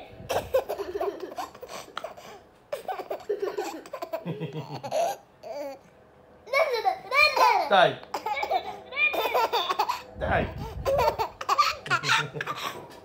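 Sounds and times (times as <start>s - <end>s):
toddler giggling: 0.3s - 5.8s, 6.5s - 12.9s.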